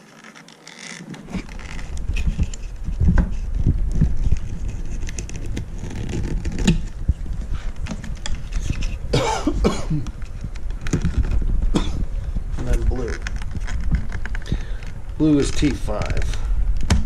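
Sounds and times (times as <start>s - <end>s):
low rumble of handling noise: 0.0s - 17.0s.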